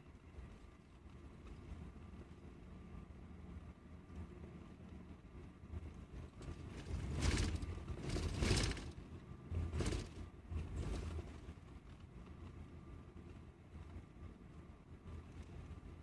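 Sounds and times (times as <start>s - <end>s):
bus road and engine rumble: 0.0s - 16.0s.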